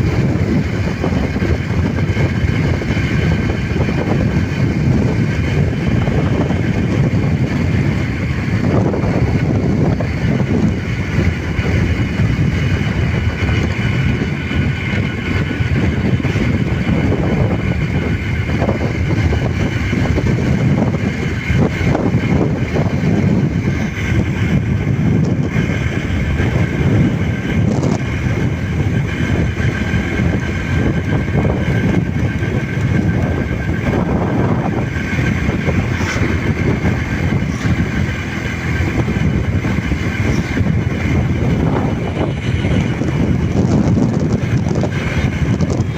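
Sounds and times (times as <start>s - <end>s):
vehicle rumble: 0.0s - 45.9s
wind buffeting microphone: 0.0s - 45.9s.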